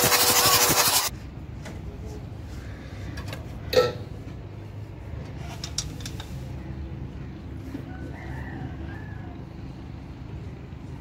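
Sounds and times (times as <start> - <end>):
diesel engine rumble: 1.2 - 11.0.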